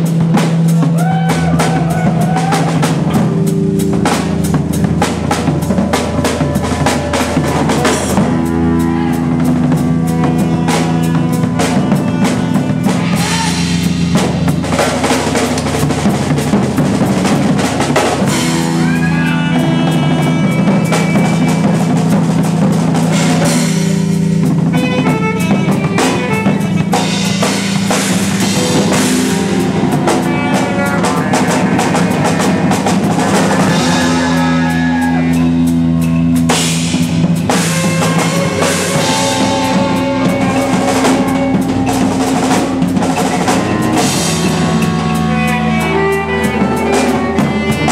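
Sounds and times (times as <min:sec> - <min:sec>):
bass guitar sustained notes: 0:00.0 - 0:47.9
drum kit with cymbals: 0:00.0 - 0:47.9
electric guitars: 0:00.0 - 0:47.9.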